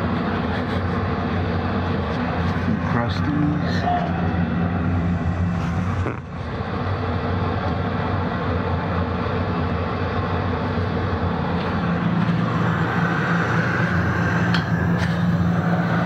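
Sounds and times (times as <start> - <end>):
boiler burner and fan hum: 0.0 - 16.0.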